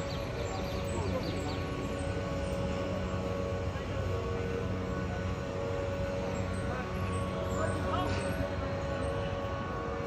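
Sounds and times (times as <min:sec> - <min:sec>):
large machine droning: 0:00.0 - 0:10.0.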